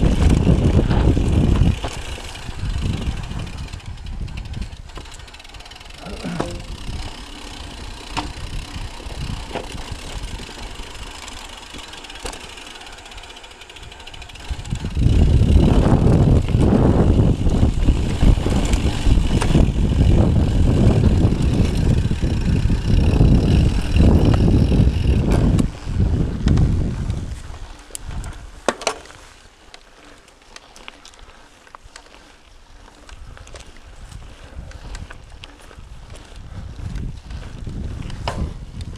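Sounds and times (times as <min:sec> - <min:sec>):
wind rumble on microphone: 0:00.0 - 0:11.6, 0:13.8 - 0:28.7, 0:32.2 - 0:38.9
bike rattling and clicking: 0:00.0 - 0:38.9
bike tyres on dirt trail: 0:00.0 - 0:38.9.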